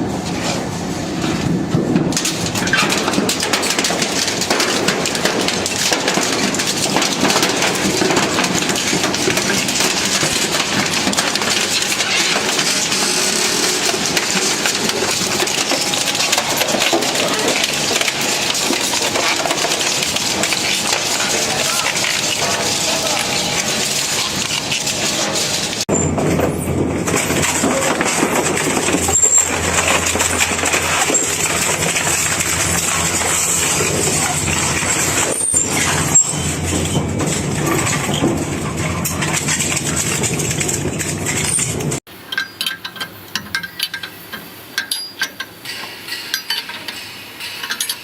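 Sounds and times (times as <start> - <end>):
shredding machine crunching: 0.3 - 42.1.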